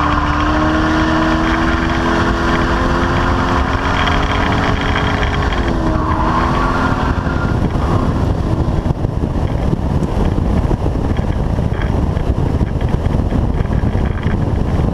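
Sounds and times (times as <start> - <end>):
car engine running: 0.0 - 14.9
wind buffeting microphone: 0.0 - 14.9.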